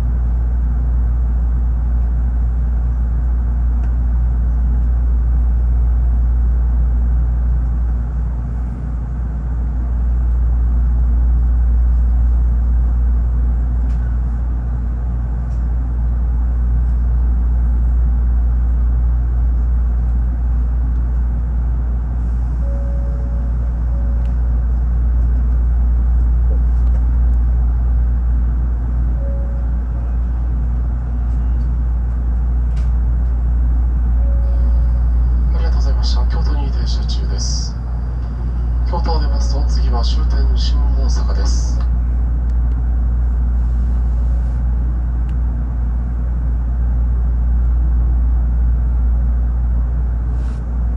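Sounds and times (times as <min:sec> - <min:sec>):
train cabin low rumble: 0:00.0 - 0:50.9.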